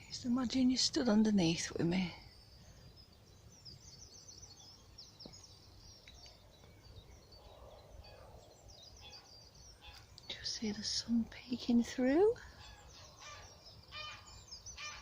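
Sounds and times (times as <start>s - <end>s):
low steady background rumble: 0.0s - 14.7s
songbirds chirping and trilling: 0.0s - 15.0s.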